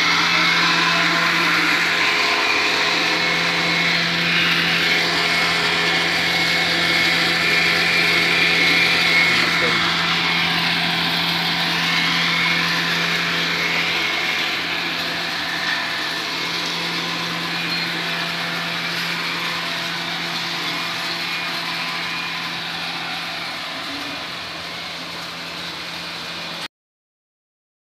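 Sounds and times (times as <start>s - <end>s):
machinery low hum: 0.0s - 26.7s
machinery whirring: 0.0s - 26.7s.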